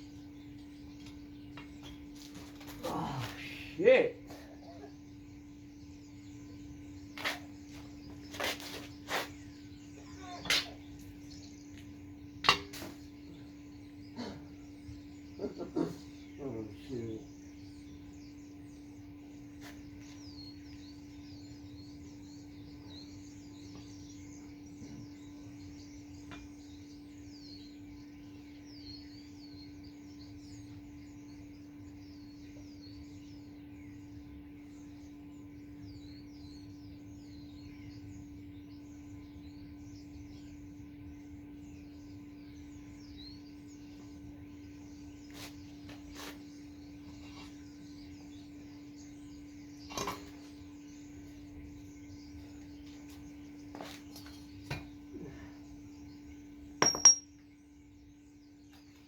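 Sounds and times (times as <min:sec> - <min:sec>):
small birds chirping: 0:00.0 - 0:59.0
steady low hum: 0:00.0 - 0:59.0.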